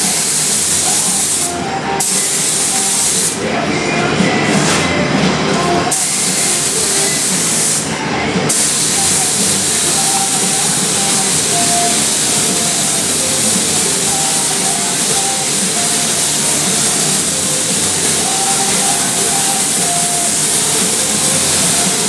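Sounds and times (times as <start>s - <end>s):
paint spray gun hissing: 0.0s - 3.4s, 5.6s - 22.0s.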